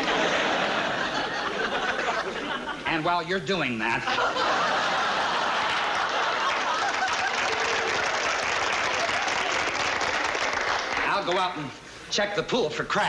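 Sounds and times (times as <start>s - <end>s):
audience laughing and applauding: 0.0s - 3.2s, 3.8s - 11.6s.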